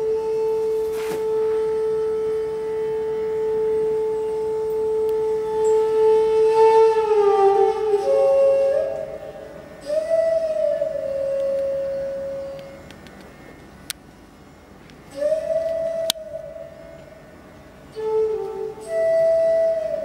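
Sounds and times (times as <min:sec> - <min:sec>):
bamboo flute note: 0:00.0 - 0:12.9, 0:15.1 - 0:17.3, 0:17.9 - 0:20.0.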